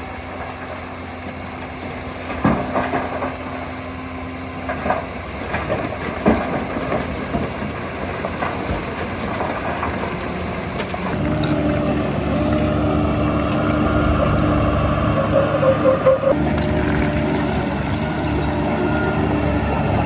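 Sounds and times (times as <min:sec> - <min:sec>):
diesel machinery running: 0:00.0 - 0:20.0.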